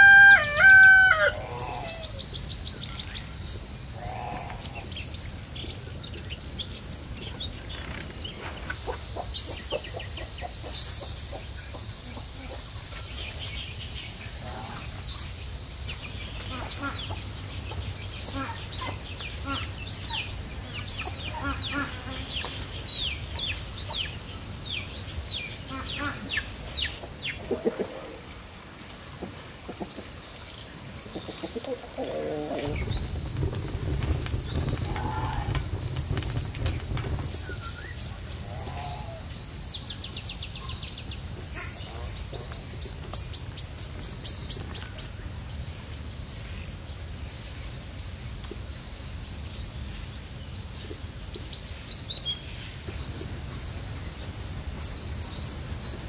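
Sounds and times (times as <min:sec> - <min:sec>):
small birds chirping and trilling: 0:00.0 - 0:28.4, 0:29.5 - 0:56.0.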